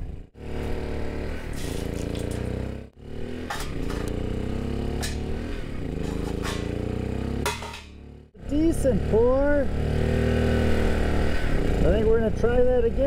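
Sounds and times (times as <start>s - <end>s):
engine-like hum: 0.0s - 13.0s.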